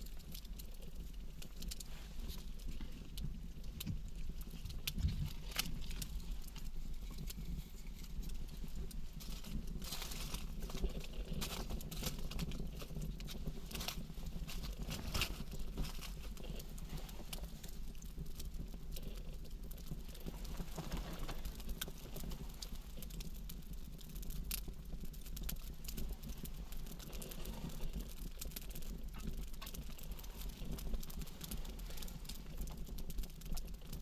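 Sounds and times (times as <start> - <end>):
campfire crackling and popping: 0.0 - 34.0
low fire rumble: 0.0 - 34.0.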